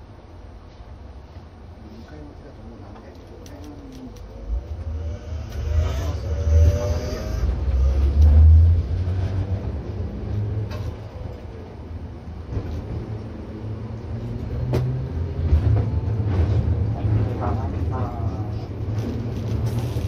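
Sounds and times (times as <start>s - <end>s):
tram motor rumble: 0.0s - 20.0s.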